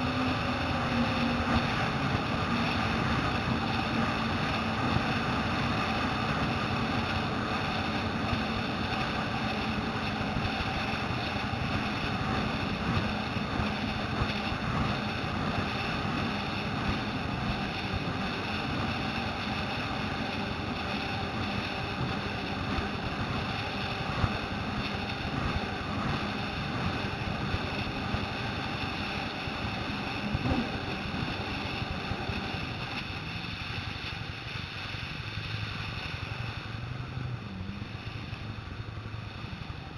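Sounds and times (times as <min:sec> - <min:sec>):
wind buffeting microphone: 0:00.0 - 0:36.4
water rushing against hull: 0:00.0 - 0:39.9
watercraft engine running: 0:00.0 - 0:39.9.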